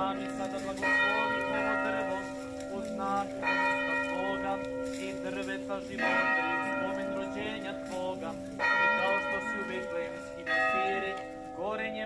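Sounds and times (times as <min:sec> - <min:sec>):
church bell ringing: 0:00.0 - 0:12.0.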